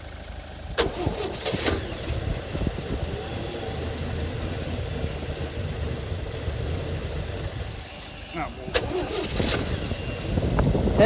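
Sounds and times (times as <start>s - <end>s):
pickup truck engine starting and running: 0.0s - 11.0s.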